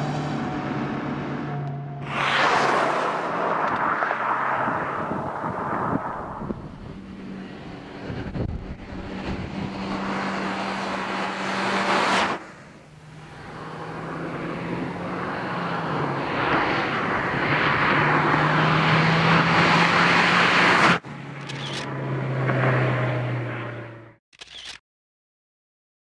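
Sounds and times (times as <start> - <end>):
car driving by: 0.0 - 24.2.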